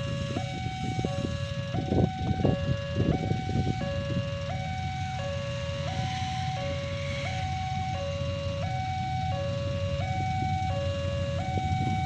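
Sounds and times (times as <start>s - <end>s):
low train rumble: 0.0s - 12.0s
two-tone level crossing alarm: 0.0s - 12.0s.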